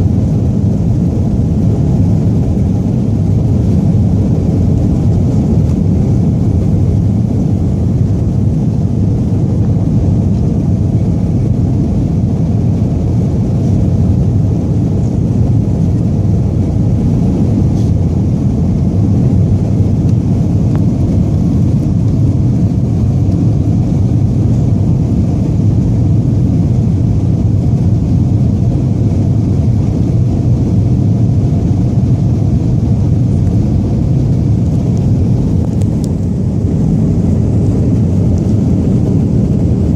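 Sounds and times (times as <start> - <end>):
jet engines from inside cabin: 0.0 - 39.9.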